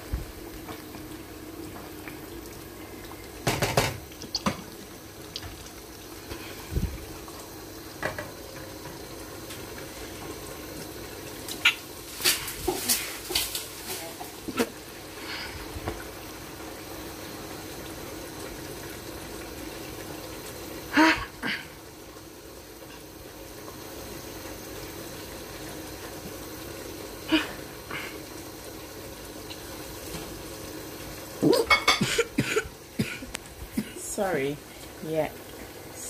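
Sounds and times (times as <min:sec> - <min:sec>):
stew bubbling under a lid: 0:00.0 - 0:36.0.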